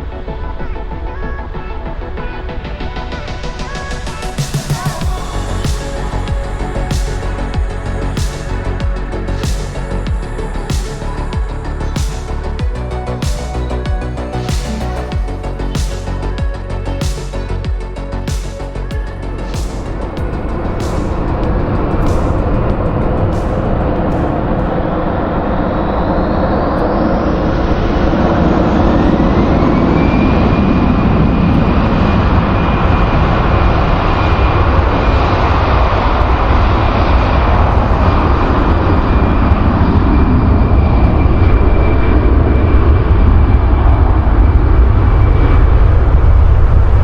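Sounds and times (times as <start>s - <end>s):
jet engines rumbling and whining: 0.0s - 47.0s.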